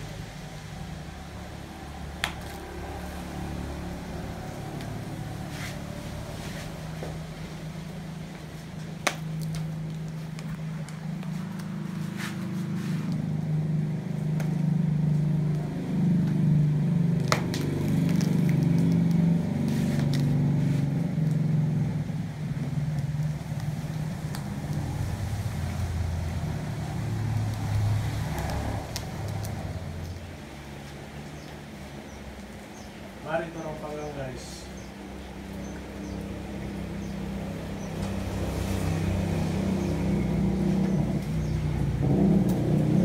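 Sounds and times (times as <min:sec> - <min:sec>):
banana leaves crackling: 0:00.0 - 0:43.0
vehicle engine hum: 0:00.0 - 0:43.0.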